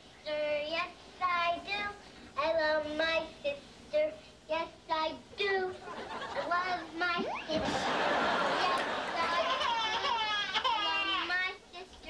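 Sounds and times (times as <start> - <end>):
little girl singing: 0.2 - 12.0.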